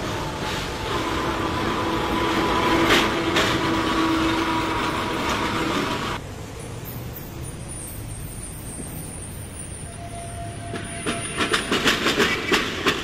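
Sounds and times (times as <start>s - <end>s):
rail vehicle whine on track: 0.0s - 13.0s.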